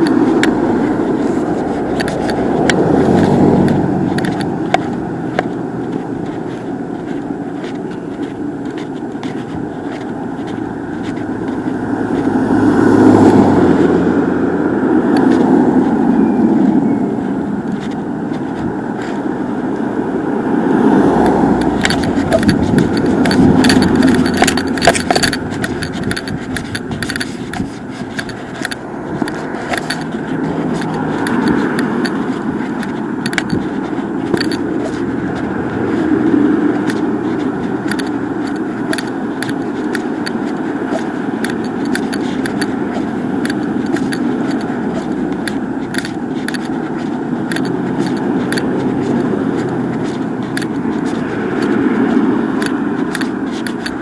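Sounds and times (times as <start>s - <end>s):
clicks and rattles near microphone: 0.0s - 16.0s, 17.2s - 20.0s, 20.7s - 54.0s
road traffic passing: 0.0s - 54.0s.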